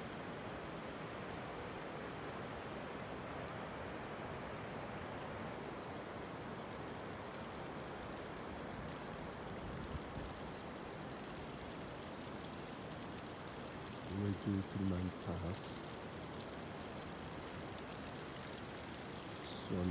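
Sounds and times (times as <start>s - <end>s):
mountain stream rushing: 0.0s - 19.9s.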